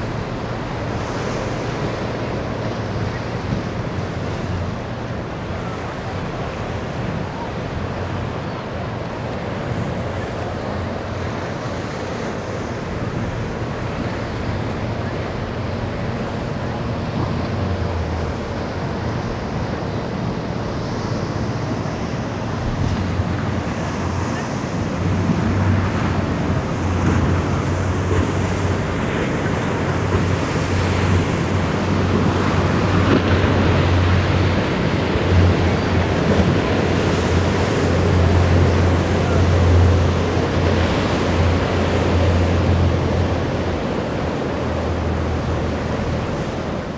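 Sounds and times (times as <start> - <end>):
waves and surf churning: 0.0 - 46.9.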